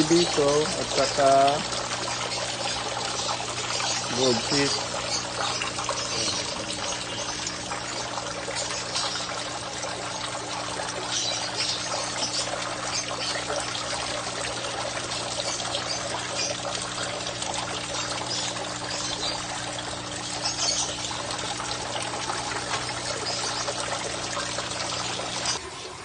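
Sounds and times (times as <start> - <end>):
water streams splashing into pond: 0.0 - 26.0.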